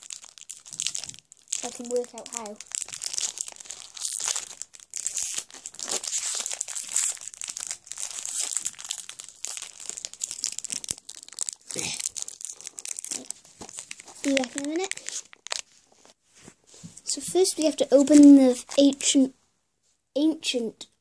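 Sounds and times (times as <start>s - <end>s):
foil wrapper crinkling: 0.0s - 16.2s, 17.5s - 18.8s.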